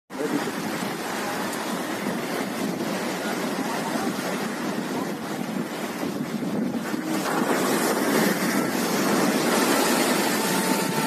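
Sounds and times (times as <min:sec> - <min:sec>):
storm waves breaking on sea wall: 0:00.1 - 0:11.0
wind buffeting microphone: 0:00.1 - 0:11.0.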